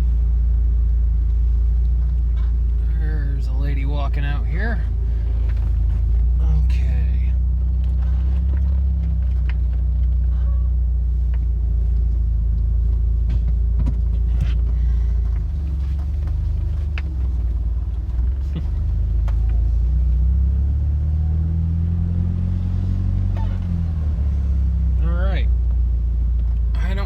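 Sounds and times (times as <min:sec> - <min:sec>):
car engine from inside cabin: 0:00.0 - 0:27.0.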